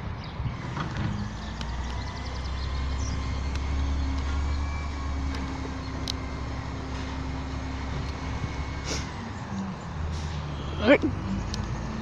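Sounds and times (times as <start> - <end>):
garbage truck engine running: 0.5 - 12.0.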